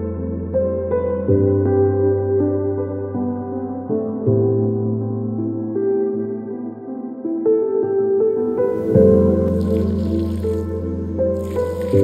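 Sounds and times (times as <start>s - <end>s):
calm ambient music: 0.0s - 12.0s.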